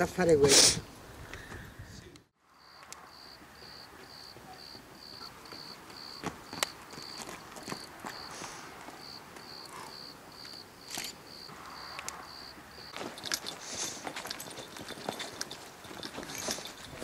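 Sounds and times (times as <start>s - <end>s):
cricket chirping: 2.5s - 17.0s.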